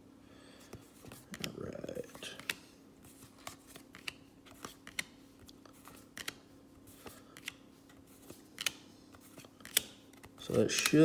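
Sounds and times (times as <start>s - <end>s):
trading cards flipped by hand: 0.7s - 11.0s.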